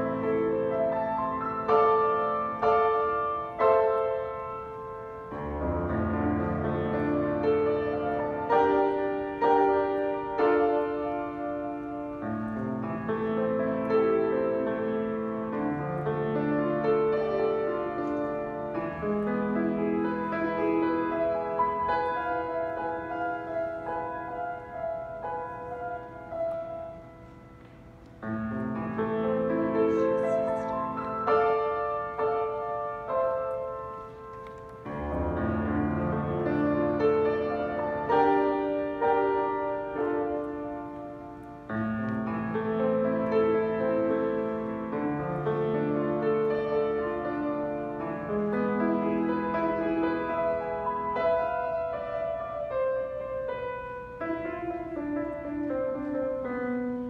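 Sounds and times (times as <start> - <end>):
grand piano classical piece: 0.0 - 57.0.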